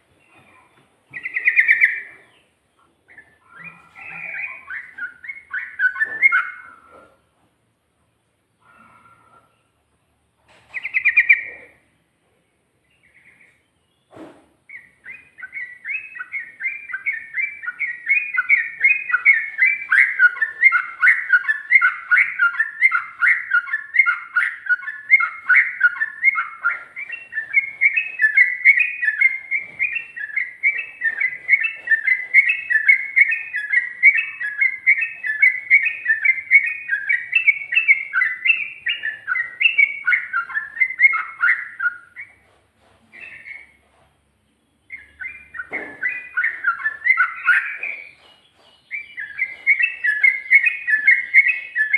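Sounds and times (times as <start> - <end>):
bird warbling song: 0.0 - 7.4, 10.5 - 51.9
bird call: 0.3 - 7.2, 10.6 - 11.8, 13.0 - 43.8, 44.9 - 51.9.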